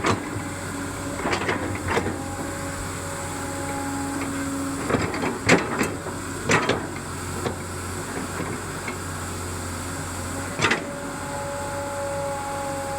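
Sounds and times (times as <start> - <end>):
excavator running: 0.0 - 12.9.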